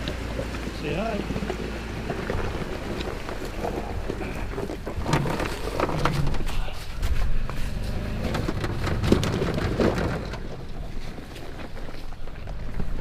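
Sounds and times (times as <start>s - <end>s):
low engine rumble: 0.0s - 13.0s
tyres crunching over rocks: 0.0s - 13.0s.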